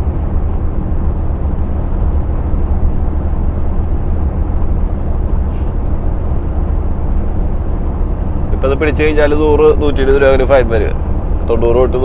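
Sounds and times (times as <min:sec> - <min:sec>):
diesel truck engine rumble: 0:00.0 - 0:12.0
road noise: 0:00.0 - 0:12.0.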